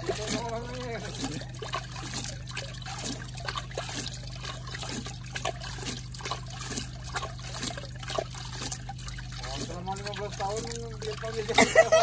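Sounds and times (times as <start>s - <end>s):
water splashing over a pan: 0.0s - 12.0s.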